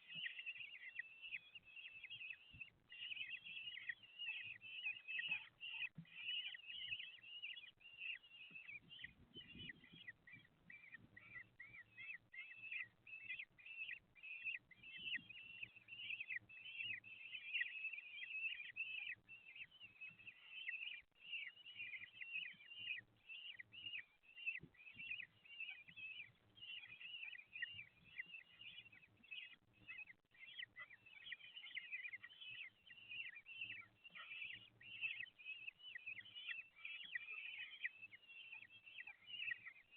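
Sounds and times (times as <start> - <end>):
bird chicks begging calls: 0.0 - 39.9.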